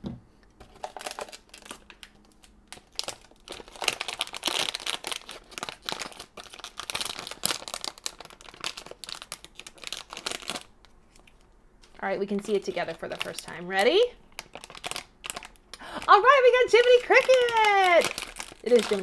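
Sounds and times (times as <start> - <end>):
foil bag crinkling: 0.6 - 19.0.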